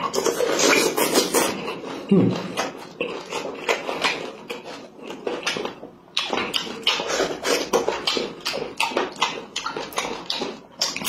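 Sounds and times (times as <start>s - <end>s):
man chewing and sucking meat: 0.0s - 11.0s.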